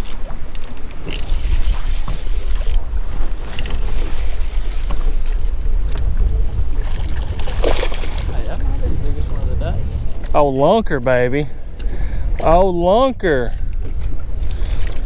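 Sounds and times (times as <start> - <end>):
strong wind buffeting microphone: 0.9 - 15.0.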